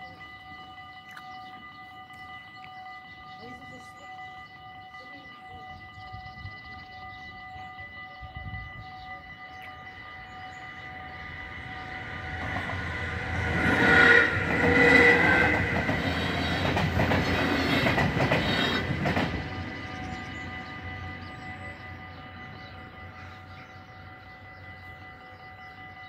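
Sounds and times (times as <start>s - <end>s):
level crossing warning bell: 0.0s - 26.0s
train rumble and wheel clatter: 0.0s - 26.0s.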